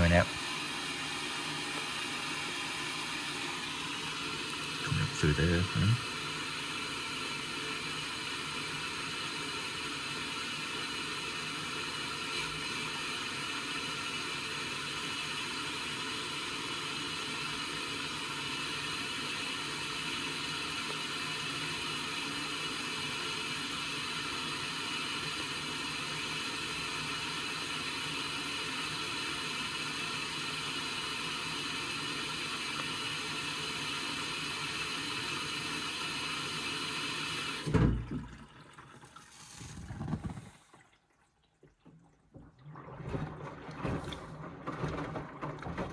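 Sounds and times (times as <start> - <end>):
water running into washing machine: 0.0 - 45.9.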